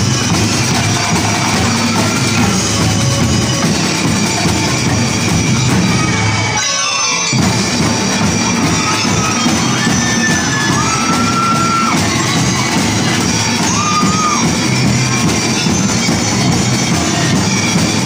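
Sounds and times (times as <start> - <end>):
marching bass and snare drums: 0.0 - 6.6, 7.4 - 18.0
drum and lyre corps playing: 0.0 - 18.0.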